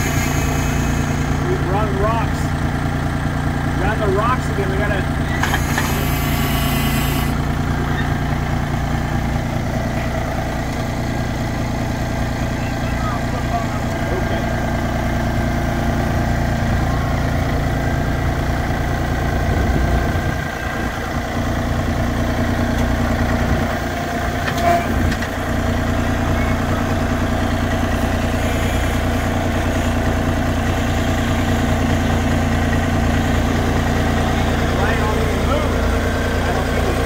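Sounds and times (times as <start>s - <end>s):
diesel tractor engine idling: 0.0s - 37.0s.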